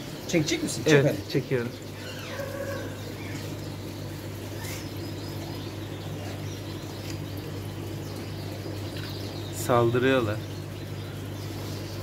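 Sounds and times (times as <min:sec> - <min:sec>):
faint bird chirps: 0:01.7 - 0:12.0.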